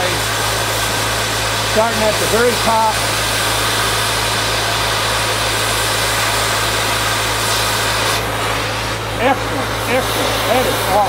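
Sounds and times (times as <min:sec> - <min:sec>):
cutting torch hissing: 0:00.0 - 0:11.0.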